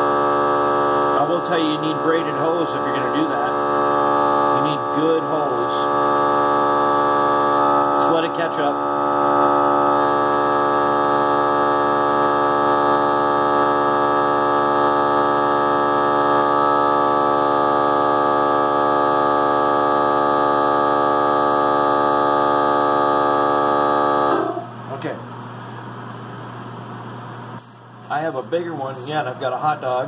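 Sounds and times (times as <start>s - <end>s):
air compressor humming: 0.0s - 30.0s.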